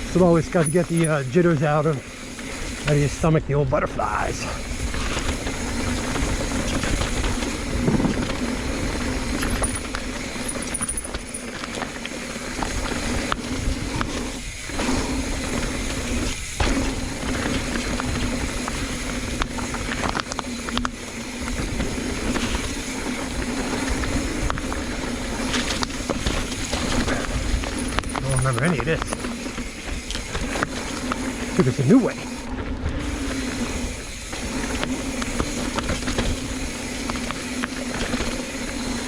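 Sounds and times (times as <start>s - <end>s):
bike rattles and knocks: 0.0s - 3.1s, 4.6s - 39.0s
mountain bike rushing on dirt: 0.0s - 39.0s.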